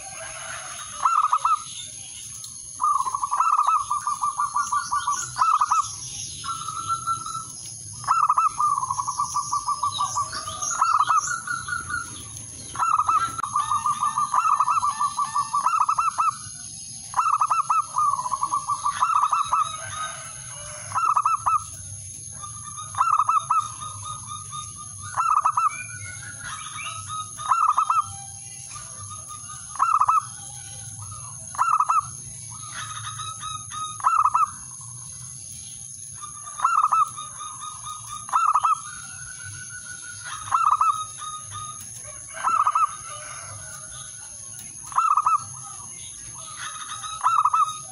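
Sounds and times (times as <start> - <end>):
dove cooing and trilling: 0.0 - 47.9.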